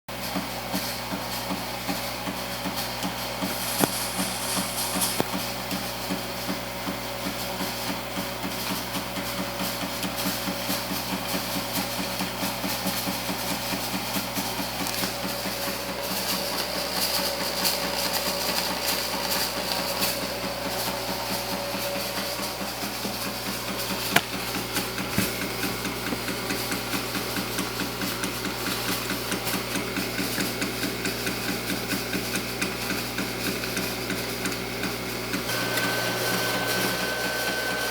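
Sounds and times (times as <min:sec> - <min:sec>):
haze machine rapid clicking: 0:00.7 - 0:37.9.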